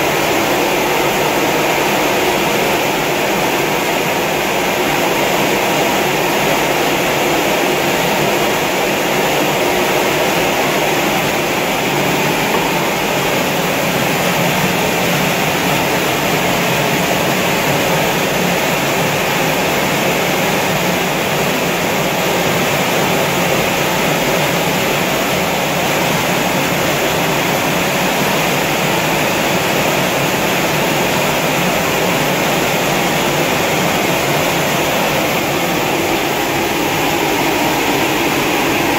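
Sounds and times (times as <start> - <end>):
sorting machine hum and hiss: 0.0 - 38.9.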